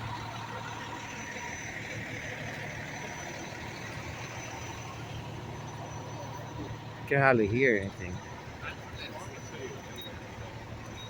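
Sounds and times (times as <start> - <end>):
fire engine idling: 0.0 - 11.0.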